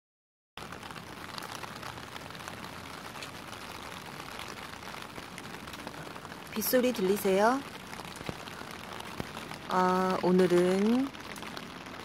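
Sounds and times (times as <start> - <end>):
rain on wet concrete: 0.6 - 12.0.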